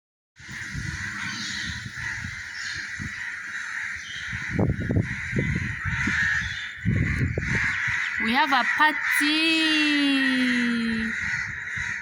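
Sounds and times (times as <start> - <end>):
flock of birds calling: 0.4 - 12.0
harsh caw-like calls: 0.4 - 12.0.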